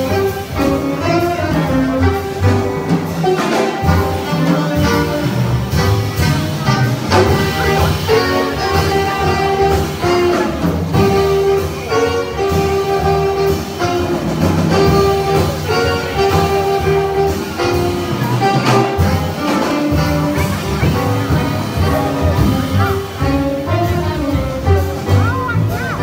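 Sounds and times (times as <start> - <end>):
drums: 0.0 - 26.0
guitar: 0.0 - 26.0
piano: 0.0 - 26.0
saxophones and trombone chords: 0.0 - 26.0.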